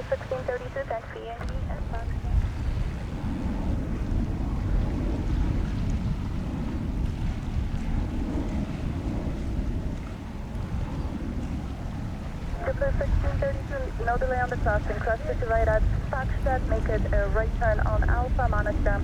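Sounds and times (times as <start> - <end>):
low uneven rumble: 0.0 - 19.0
wind buffeting microphone: 0.0 - 19.0.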